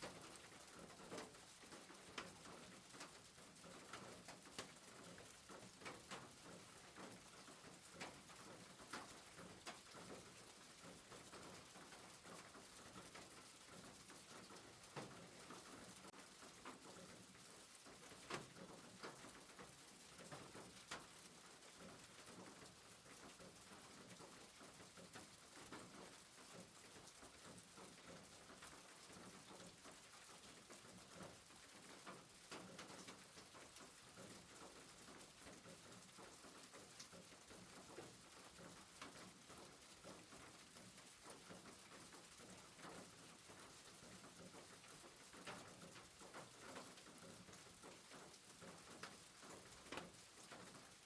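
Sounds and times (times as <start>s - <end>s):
rain pattering on a roof: 0.0s - 51.0s.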